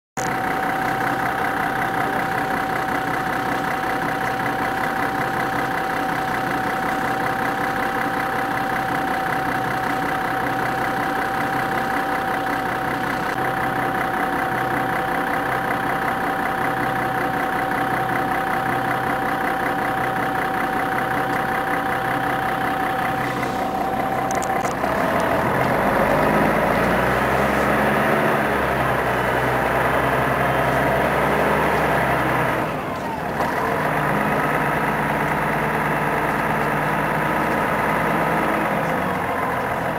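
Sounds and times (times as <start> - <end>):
bus diesel engine idling: 0.1 - 39.9.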